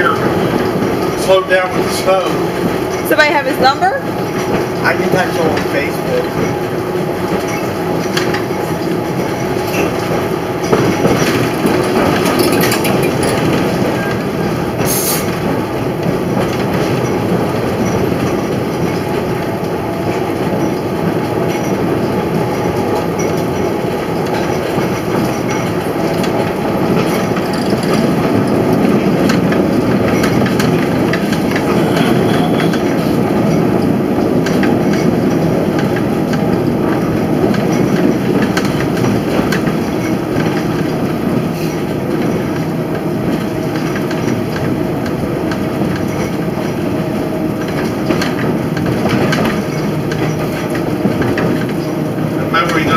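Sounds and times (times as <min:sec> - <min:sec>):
wheels rumbling on rails: 0:00.0 - 0:52.9.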